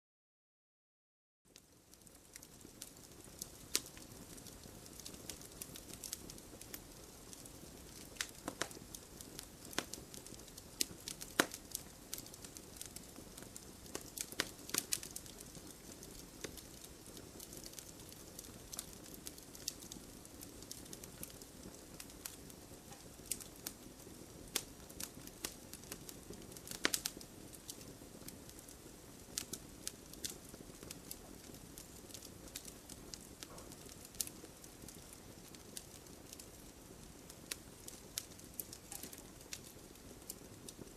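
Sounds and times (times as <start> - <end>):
campfire crackling and popping: 1.5 - 40.9
soft steady fire hiss: 1.5 - 40.9.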